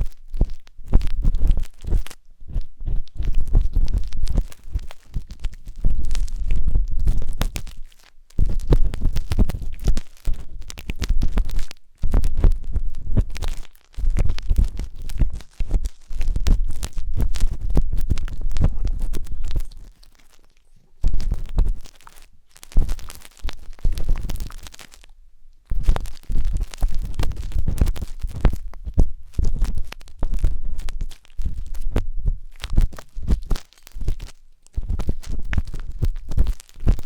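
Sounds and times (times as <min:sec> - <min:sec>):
skewer scratching microphone: 0:00.0 - 0:22.1, 0:22.7 - 0:24.8, 0:25.7 - 0:37.0.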